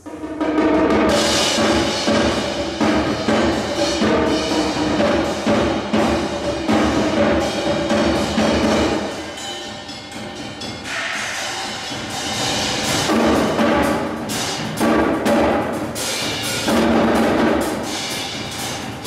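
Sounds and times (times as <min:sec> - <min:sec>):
percussion ensemble playing: 0:00.0 - 0:19.0.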